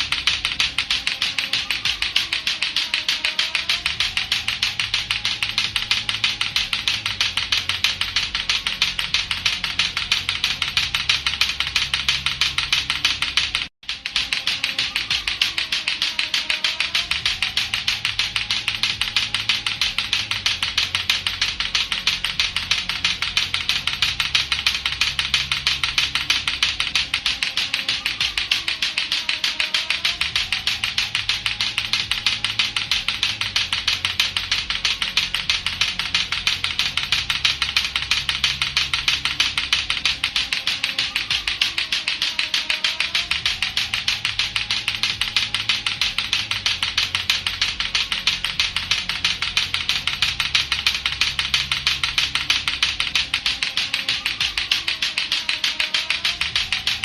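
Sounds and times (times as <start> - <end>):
plastic balls clacking together: 0.0 - 57.0.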